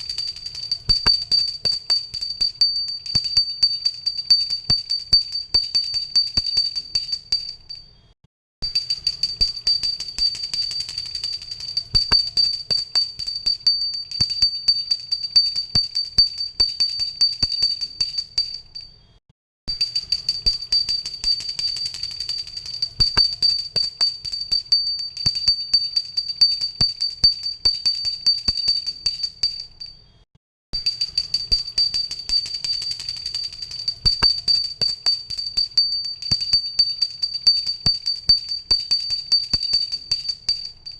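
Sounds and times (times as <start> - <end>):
hand bell ringing rapidly: 0.0 - 7.8, 8.7 - 18.9, 19.7 - 30.0, 30.8 - 40.9.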